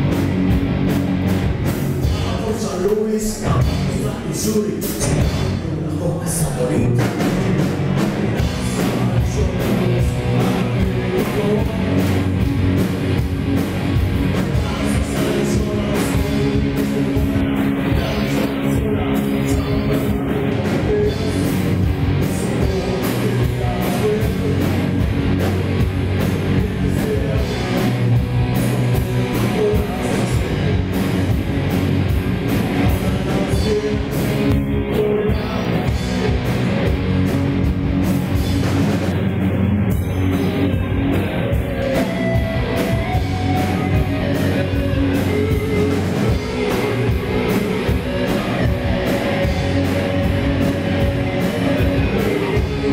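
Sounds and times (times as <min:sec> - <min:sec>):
drum kit: 0:00.0 - 0:52.9
electric bass: 0:00.0 - 0:52.9
electric guitar: 0:00.0 - 0:52.9.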